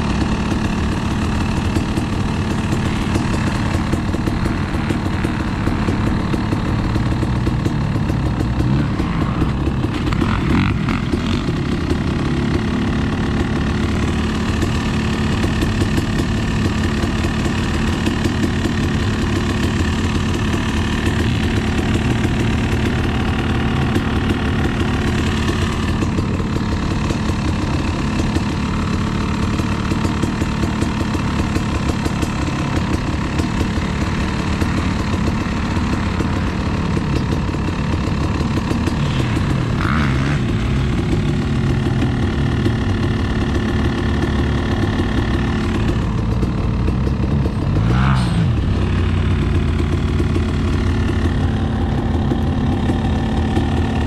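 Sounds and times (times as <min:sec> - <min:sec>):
dirt bike engine idling: 0:00.0 - 0:54.0.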